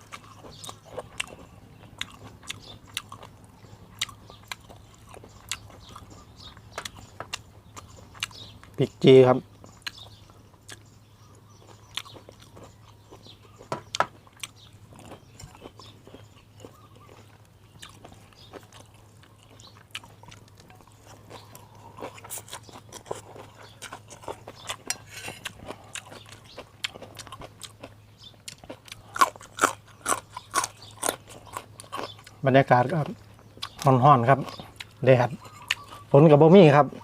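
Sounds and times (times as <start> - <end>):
person chewing food: 0.0 - 8.8, 9.4 - 36.2
faint low hum: 0.0 - 37.0.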